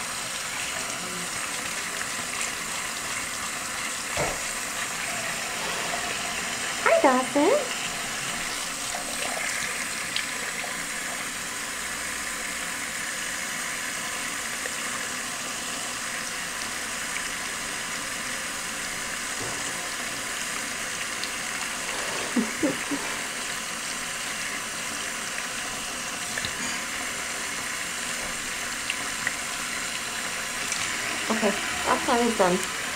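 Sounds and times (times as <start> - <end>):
running water splashing into a tub: 0.0 - 32.9.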